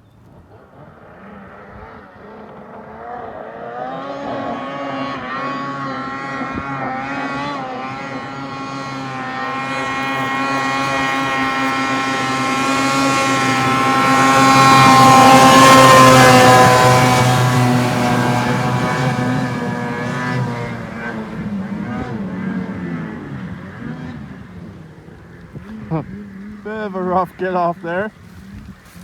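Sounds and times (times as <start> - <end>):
snowmobile engine at high revs: 0.0 - 29.0.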